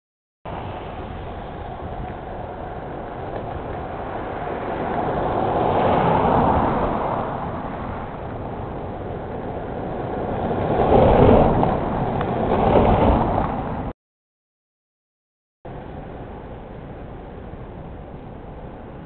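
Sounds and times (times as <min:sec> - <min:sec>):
cars passing on grooved road: 0:00.5 - 0:14.0, 0:15.7 - 0:19.0.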